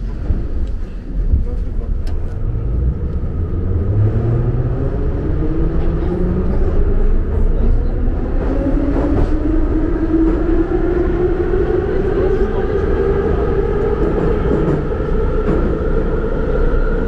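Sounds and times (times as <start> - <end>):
metro train rumble: 0.0 - 17.0.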